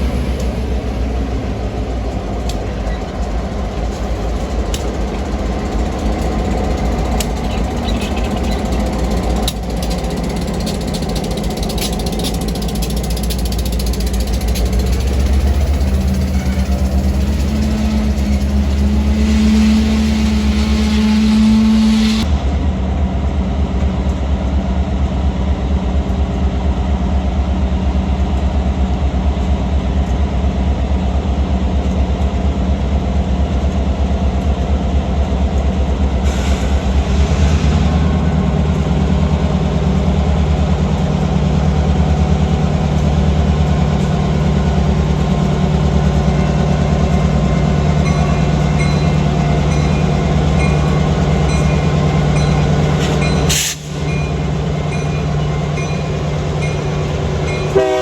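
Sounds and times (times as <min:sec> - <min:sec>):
locomotive engine drone: 0:00.0 - 0:58.0
train passing: 0:00.0 - 0:58.0.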